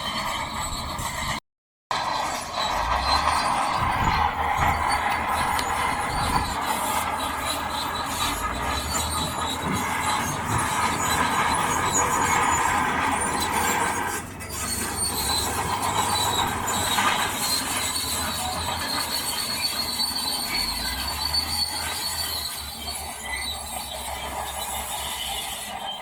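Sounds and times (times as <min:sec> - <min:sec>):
diesel engine rumbling: 0:00.0 - 0:26.0
high metallic squeal and grinding: 0:00.0 - 0:26.0.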